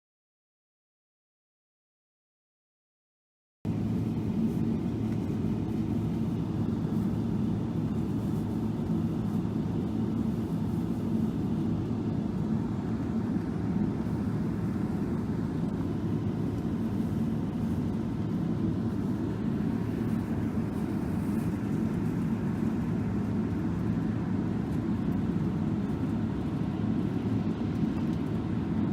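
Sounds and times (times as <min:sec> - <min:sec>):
airliner cabin engine rumble: 0:03.7 - 0:28.9.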